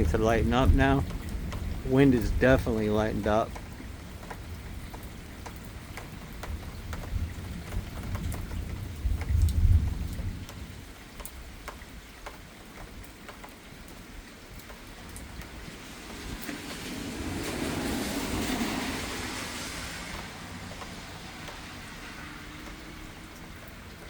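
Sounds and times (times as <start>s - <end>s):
distant thunder rumble: 0.0s - 12.0s, 15.2s - 24.0s
rain: 0.0s - 24.0s
raindrops tapping close by: 0.0s - 24.0s.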